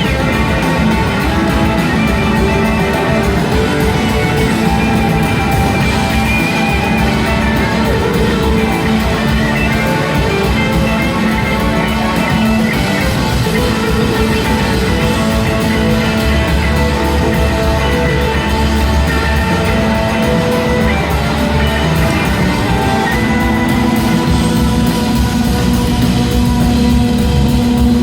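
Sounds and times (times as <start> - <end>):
bass: 0.0 - 28.0
drums: 0.0 - 28.0
electric guitars: 0.0 - 28.0.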